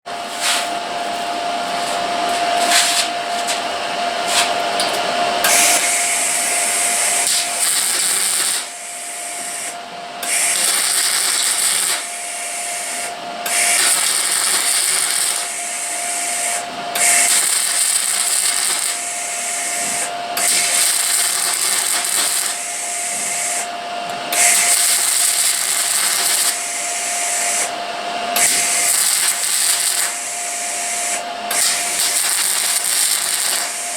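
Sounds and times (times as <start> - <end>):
power tool whine: 0.1 - 33.9
tool hissing and rubbing on metal: 0.2 - 4.6, 5.4 - 23.7, 24.3 - 27.8, 28.4 - 33.9.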